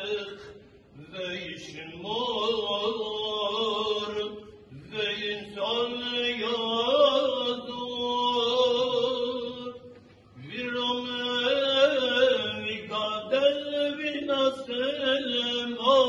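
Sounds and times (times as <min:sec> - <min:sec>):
man chanting a prayer: 0:00.0 - 0:09.8, 0:10.4 - 0:16.0.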